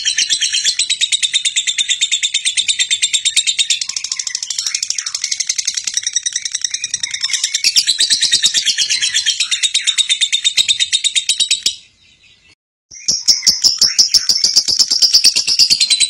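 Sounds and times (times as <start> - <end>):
bird chattering trill: 0.0 - 11.9, 12.9 - 16.0.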